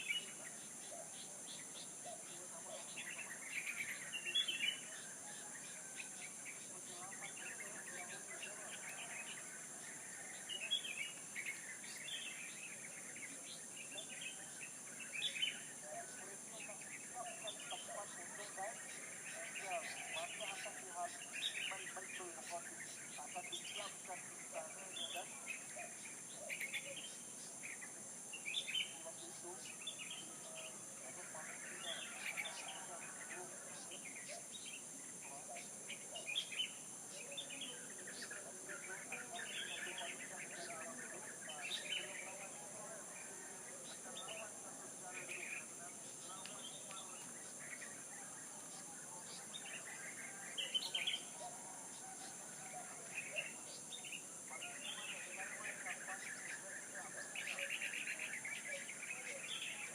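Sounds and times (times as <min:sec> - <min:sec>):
small birds chirping: 0:00.0 - 0:59.9
steady high hiss: 0:00.0 - 0:59.9.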